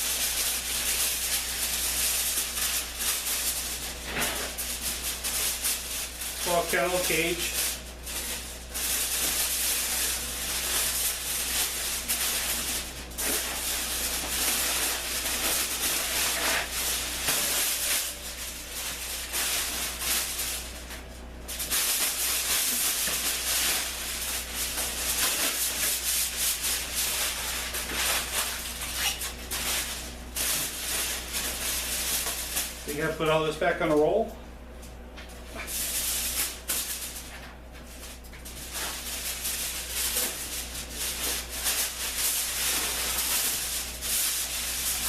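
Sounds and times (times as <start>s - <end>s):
aluminium foil crinkling: 0.0s - 45.0s
steady low hum: 0.0s - 45.0s.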